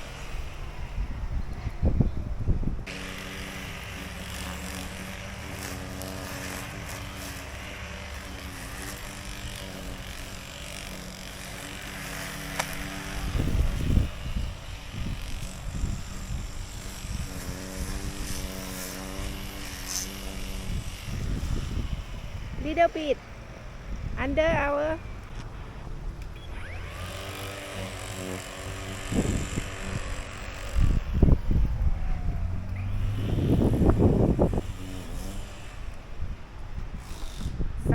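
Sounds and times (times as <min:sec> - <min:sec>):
wind gusting on microphone: 0:00.0 - 0:37.9
lawn mower engine running: 0:02.8 - 0:37.6.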